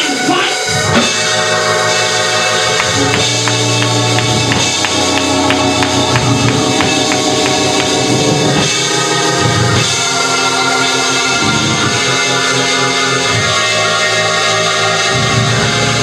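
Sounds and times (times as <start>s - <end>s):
keyboard chords: 0.0s - 16.0s
bass line: 0.7s - 16.0s.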